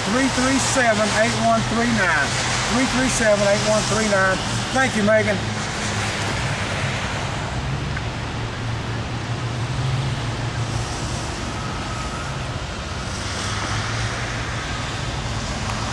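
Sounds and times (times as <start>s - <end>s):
outdoor background noise: 0.0s - 15.9s.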